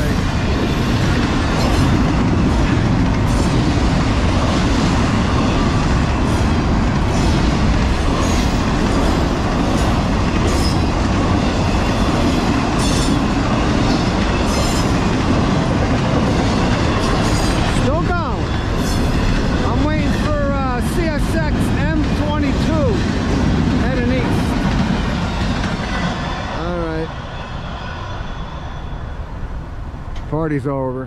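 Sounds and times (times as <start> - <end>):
freight train cars rolling on rails: 0.0 - 31.0.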